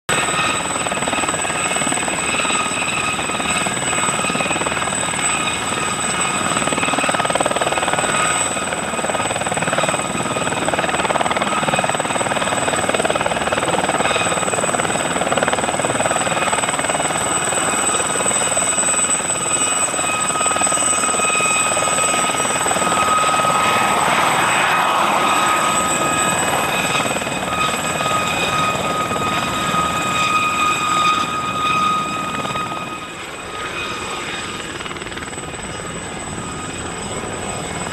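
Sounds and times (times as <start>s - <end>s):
helicopter engine and rotor: 0.1s - 37.9s.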